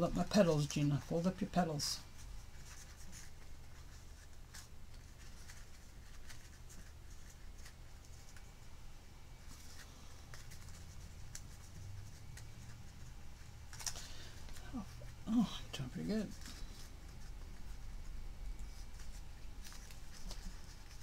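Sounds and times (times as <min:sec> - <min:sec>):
paper rustling and crinkling: 0:00.0 - 0:08.7, 0:09.4 - 0:21.0
low steady hum: 0:00.0 - 0:21.0.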